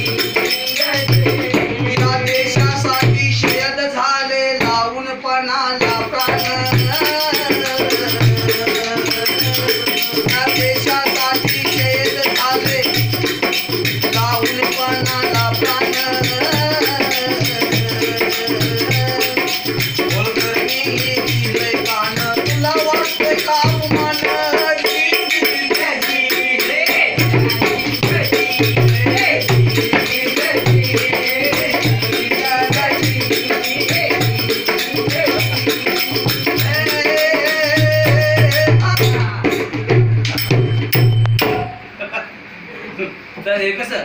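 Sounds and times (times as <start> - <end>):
hand drum beating: 0.0 - 3.7, 5.8 - 41.9
jingling percussion: 0.0 - 4.0, 5.8 - 42.0
person singing: 0.0 - 40.5.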